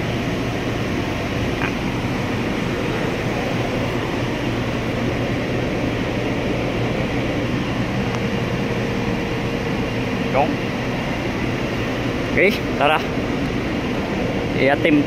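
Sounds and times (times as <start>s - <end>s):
fan droning and hissing: 0.0s - 15.0s.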